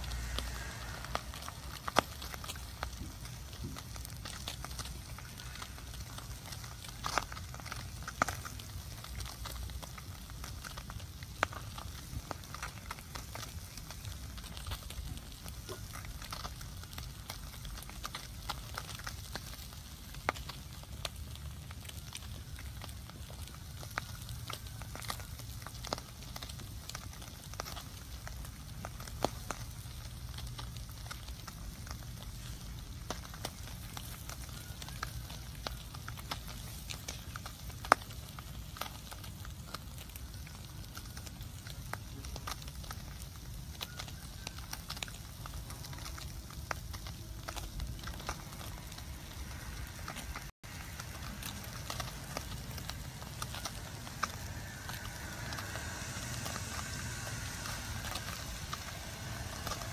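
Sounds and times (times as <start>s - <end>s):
steady low rumble: 0.0s - 43.8s, 44.8s - 59.9s
wood fire crackling and popping: 0.0s - 59.9s.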